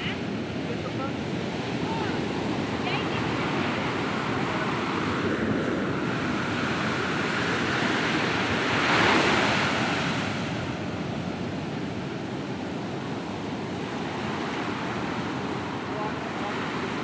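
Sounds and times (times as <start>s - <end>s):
sea surf breaking on beach: 0.0s - 17.0s.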